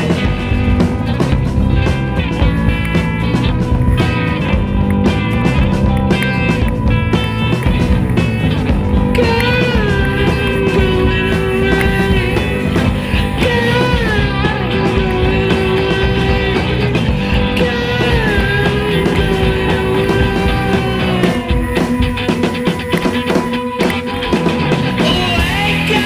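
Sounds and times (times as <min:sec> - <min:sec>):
sliding lead melody: 0:00.0 - 0:26.0
steady rock beat: 0:00.0 - 0:26.0.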